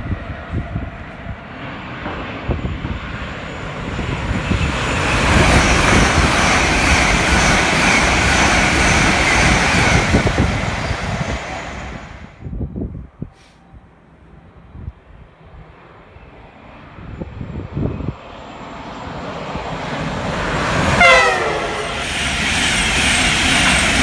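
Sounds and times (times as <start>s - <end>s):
passenger train passing at speed: 0.0s - 24.0s.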